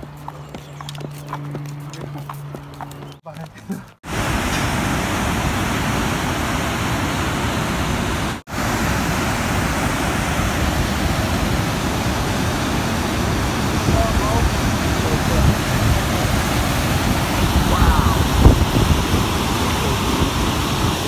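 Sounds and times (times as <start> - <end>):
river water pouring over dam: 4.1 - 21.0.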